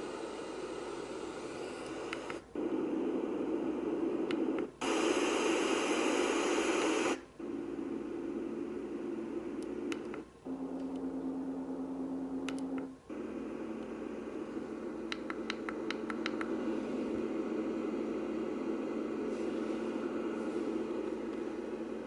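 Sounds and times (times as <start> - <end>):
white noise machine hiss: 0.0 - 22.0.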